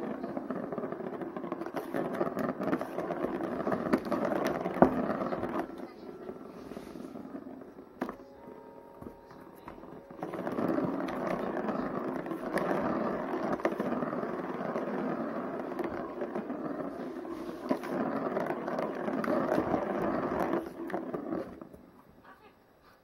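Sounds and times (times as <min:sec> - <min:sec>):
plastic ball rolling on track: 0:00.0 - 0:22.2.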